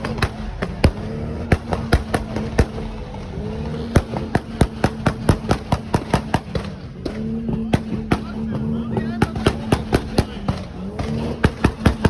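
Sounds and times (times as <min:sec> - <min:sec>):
steady low drone: 0:00.0 - 0:11.1.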